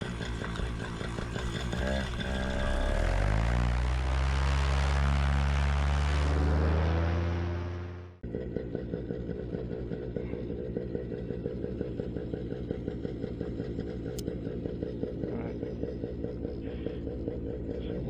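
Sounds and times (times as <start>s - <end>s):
paramotor engine and propeller: 0.0s - 18.0s.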